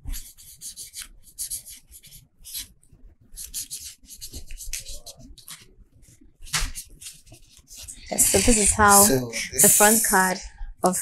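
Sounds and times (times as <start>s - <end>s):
pens scratching on paper: 0.0s - 10.4s.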